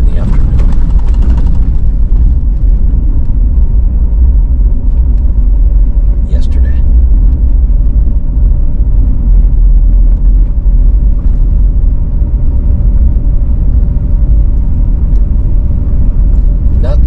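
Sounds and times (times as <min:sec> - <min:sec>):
car engine and tyre noise: 0:00.0 - 0:17.0
faint steady hum: 0:00.0 - 0:17.0.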